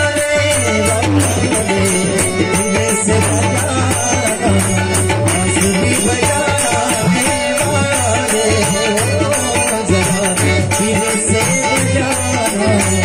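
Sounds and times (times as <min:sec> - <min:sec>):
harmonium: 0:00.0 - 0:13.0
jingling frame drums: 0:00.0 - 0:13.0
tabla rhythm: 0:00.0 - 0:13.0
voices singing: 0:00.0 - 0:13.0.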